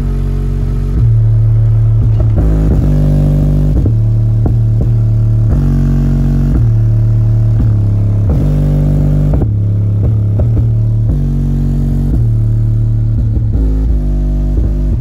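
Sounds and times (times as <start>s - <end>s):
deep bass line from speaker: 0.0s - 15.0s.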